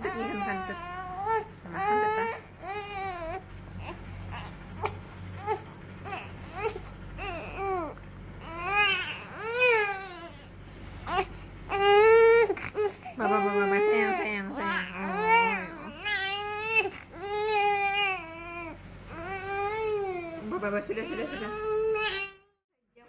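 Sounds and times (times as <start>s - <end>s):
infant crying: 0.0s - 4.5s, 5.4s - 10.4s, 11.1s - 20.4s, 21.0s - 22.4s.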